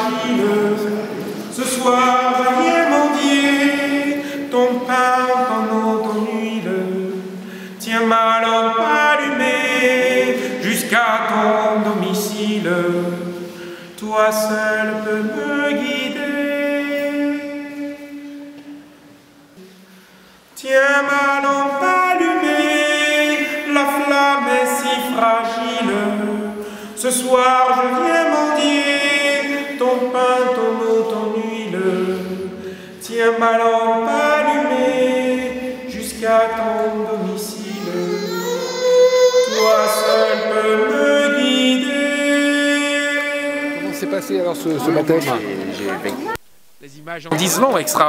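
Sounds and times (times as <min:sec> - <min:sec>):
unaccompanied hymn singing: 0:00.0 - 0:19.8, 0:20.6 - 0:46.4.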